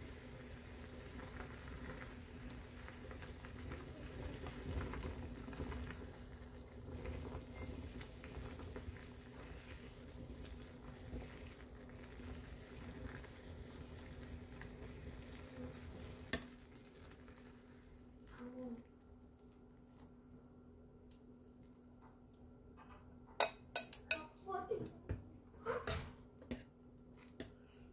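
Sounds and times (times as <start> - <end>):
noodles boiling in saucepan: 0.0 - 22.8.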